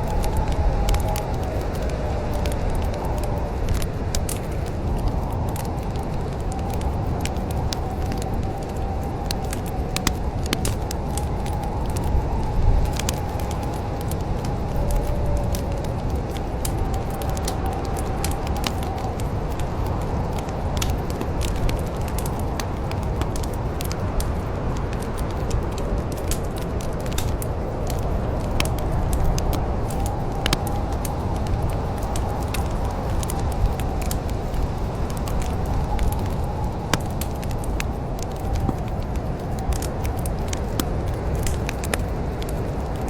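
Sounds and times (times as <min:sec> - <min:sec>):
fire crackles and pops: 0:00.0 - 0:43.0
wood fire burning: 0:00.0 - 0:43.0.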